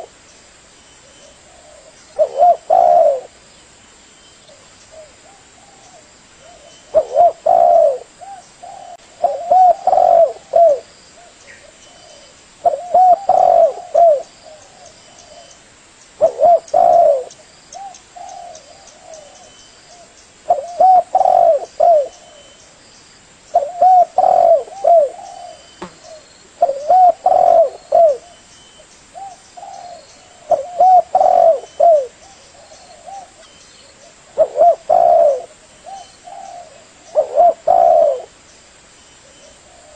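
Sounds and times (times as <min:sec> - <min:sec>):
dove cooing: 0:01.2 - 0:03.4, 0:04.5 - 0:15.6, 0:16.2 - 0:22.6, 0:23.5 - 0:28.4, 0:29.1 - 0:38.4.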